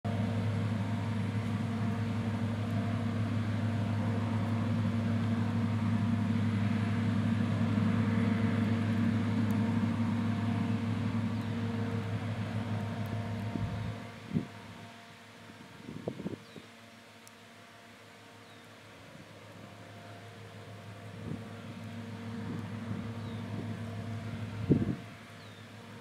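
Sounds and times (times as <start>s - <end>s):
combine harvester droning: 0.0s - 26.0s.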